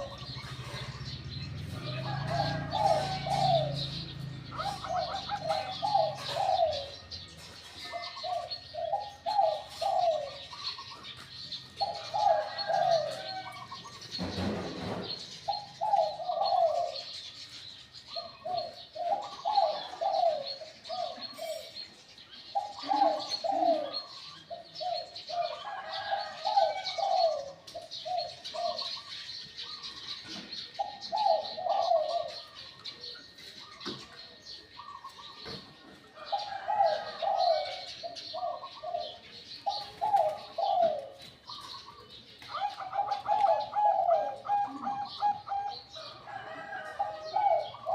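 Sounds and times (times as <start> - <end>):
dove cooing: 0.0 - 21.8, 22.4 - 47.9
small birds chirping: 0.0 - 47.9.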